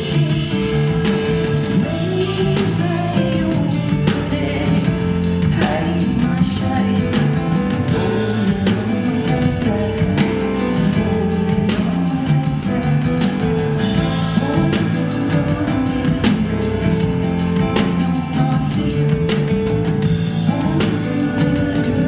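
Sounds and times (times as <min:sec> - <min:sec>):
drum kit beat: 0:00.0 - 0:22.0
live rock band playing: 0:00.0 - 0:22.0.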